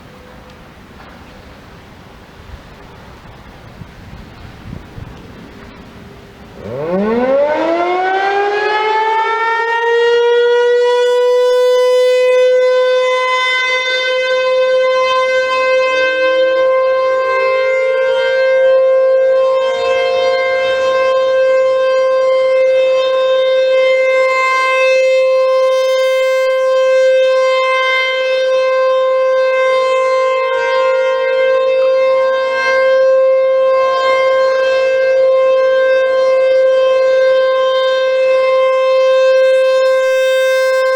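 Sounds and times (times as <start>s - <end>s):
tornado siren winding up: 5.1s - 40.9s.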